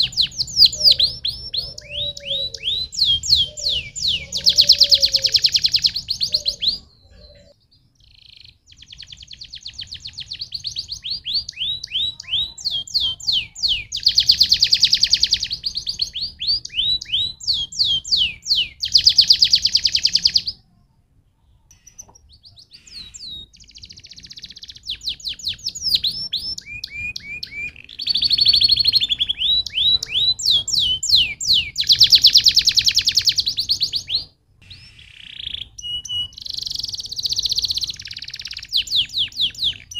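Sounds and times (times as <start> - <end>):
canary singing trills: 0.0 - 20.7, 21.5 - 39.9.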